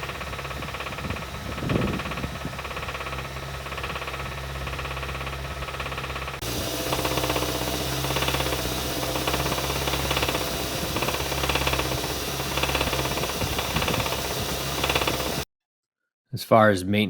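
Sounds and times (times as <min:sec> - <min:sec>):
car engine knocking: 0:00.0 - 0:15.4.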